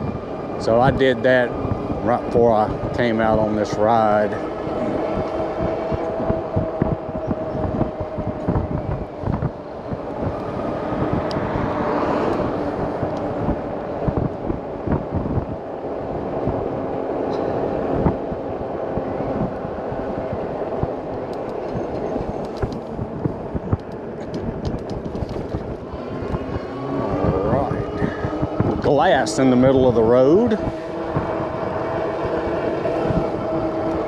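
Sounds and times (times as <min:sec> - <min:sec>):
bike rolling road noise: 0:00.0 - 0:34.0
continuous hum: 0:00.0 - 0:34.0.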